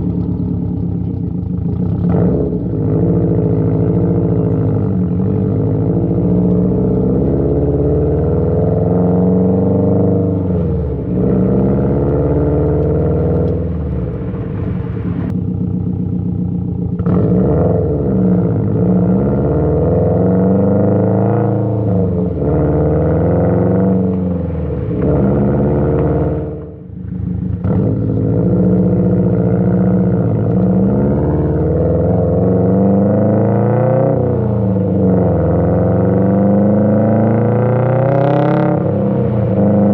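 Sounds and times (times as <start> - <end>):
car exhaust revving through gears: 0.0 - 39.9.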